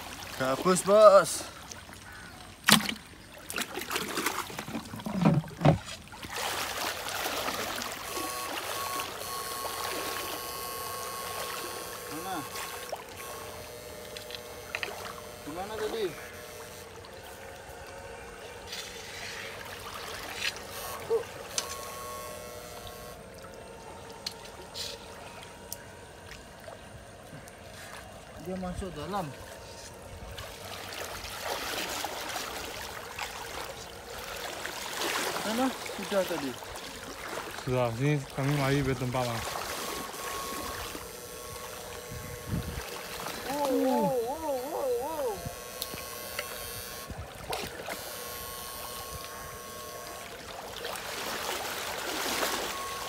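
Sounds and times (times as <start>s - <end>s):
water splashing in a stream: 0.0s - 22.1s, 22.8s - 53.0s
faint steady hum: 0.0s - 53.0s
water trickling: 0.0s - 53.0s
faint steady tone: 7.7s - 30.3s, 31.8s - 53.0s.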